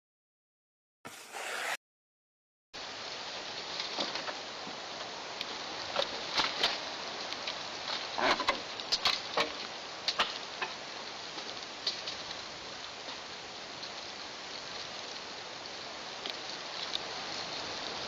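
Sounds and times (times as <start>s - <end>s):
outdoor microphone hiss: 2.8s - 18.0s.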